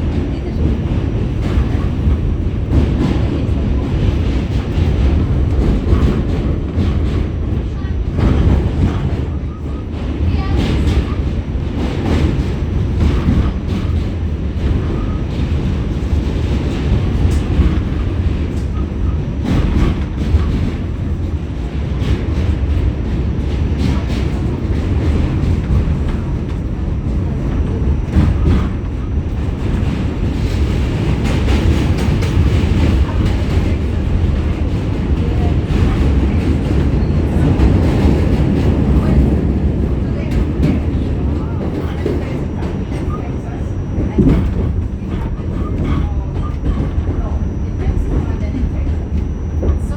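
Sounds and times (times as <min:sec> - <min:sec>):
clacks over rail joints: 0:00.0 - 0:49.9
train wheels rumbling on rails: 0:00.0 - 0:49.9.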